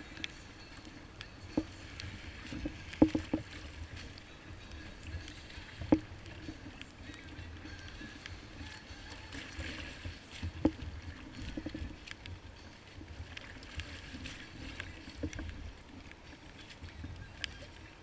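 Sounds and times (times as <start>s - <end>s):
water splashing against kayak hull: 0.0s - 18.0s.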